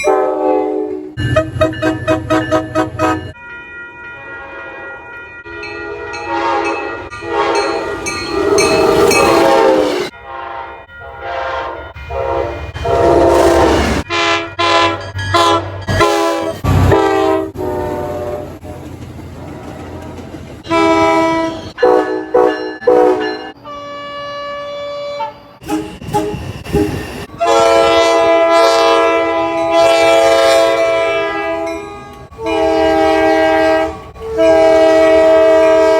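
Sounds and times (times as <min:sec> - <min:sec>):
train air horn blasts: 0:00.0 - 0:03.4, 0:05.6 - 0:18.8, 0:20.6 - 0:35.9
passing train rumble: 0:00.0 - 0:35.9.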